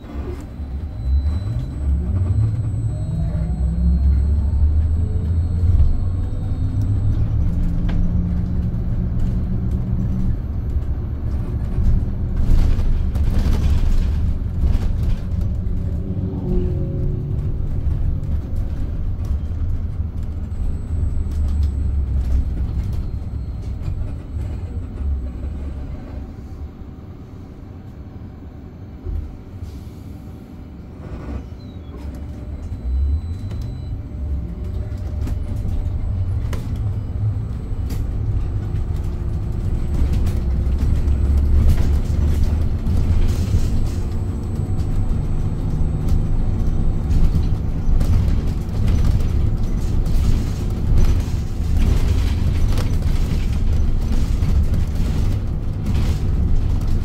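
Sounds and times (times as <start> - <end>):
electric bus rumble: 0.0 - 57.0.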